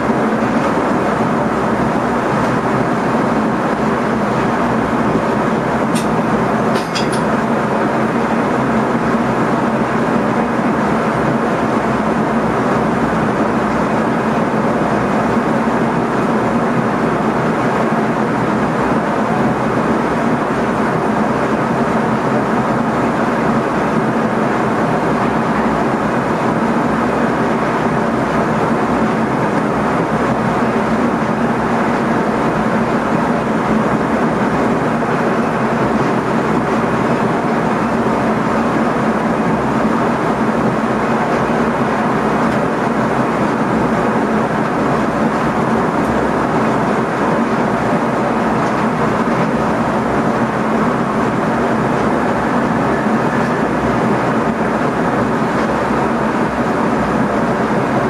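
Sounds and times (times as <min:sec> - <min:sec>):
wheels on rails running noise: 0:00.0 - 0:58.0.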